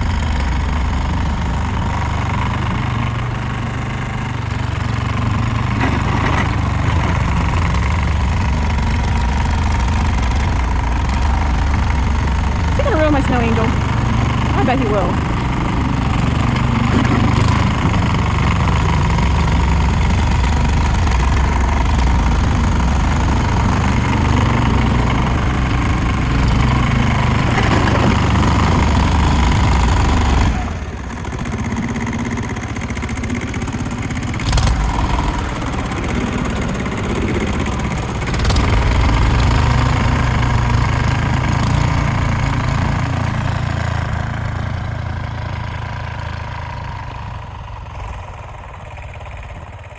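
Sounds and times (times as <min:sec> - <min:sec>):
plow pushing snow: 0:00.0 - 0:49.9
tractor engine running: 0:00.0 - 0:49.9.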